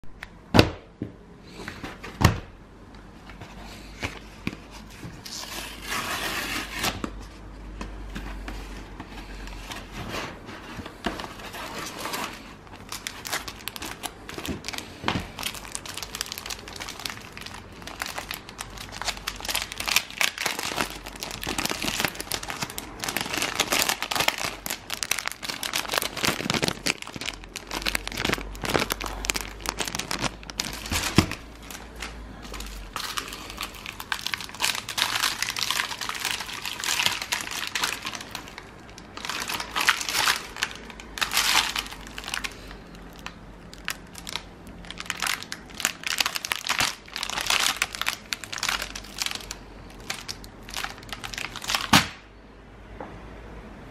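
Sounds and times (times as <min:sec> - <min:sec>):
foil patch sheets crinkling: 0:08.3 - 0:52.2.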